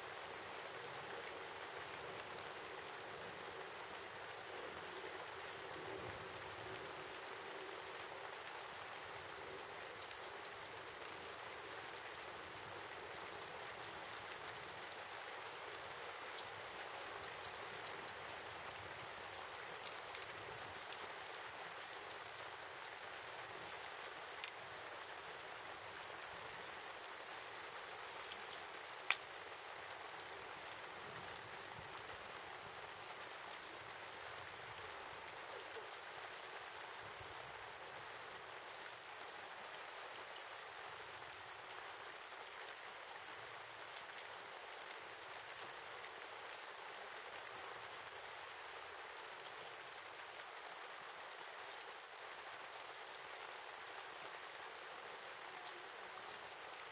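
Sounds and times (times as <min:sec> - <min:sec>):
campfire crackling: 0:00.1 - 0:56.9.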